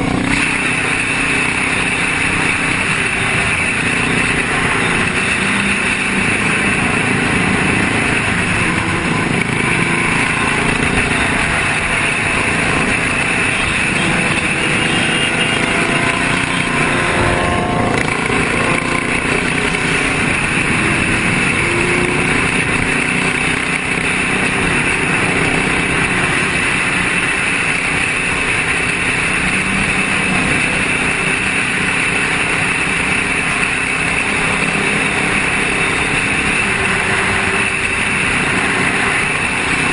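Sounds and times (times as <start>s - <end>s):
motorcycle engine revving: 0.0s - 39.9s
motorcycle engines running: 0.0s - 39.9s.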